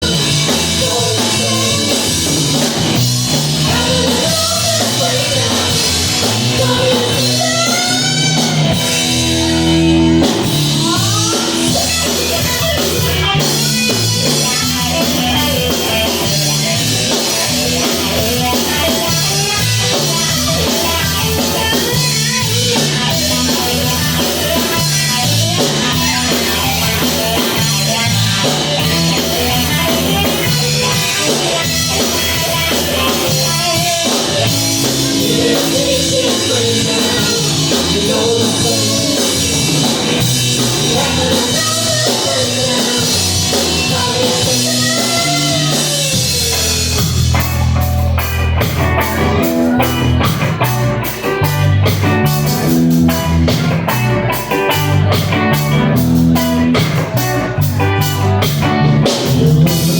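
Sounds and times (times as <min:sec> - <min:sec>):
drum kit playing: 0:00.0 - 0:59.9
electric guitar: 0:00.0 - 0:59.9.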